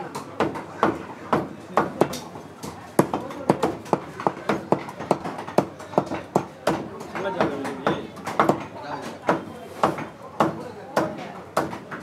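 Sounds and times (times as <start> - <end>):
meat cleaver chopping on wood: 0.1 - 12.0.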